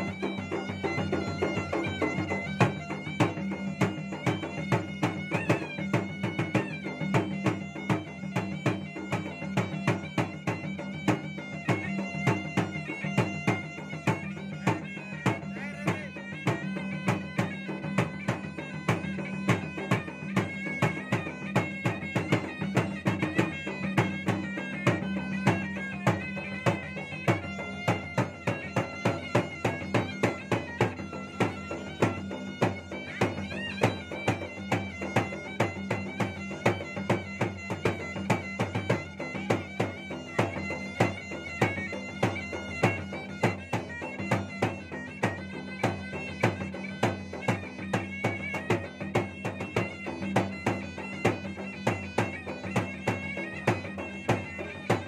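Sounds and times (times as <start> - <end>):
wind pipe melody: 0.0 - 55.0.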